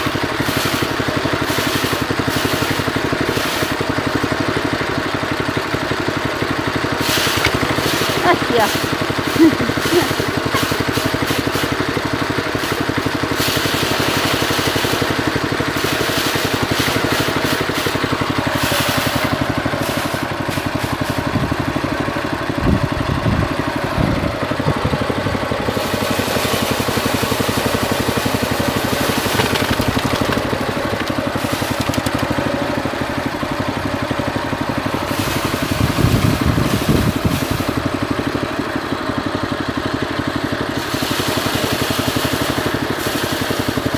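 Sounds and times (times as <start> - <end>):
threshing machine engine chugging: 0.0 - 43.9.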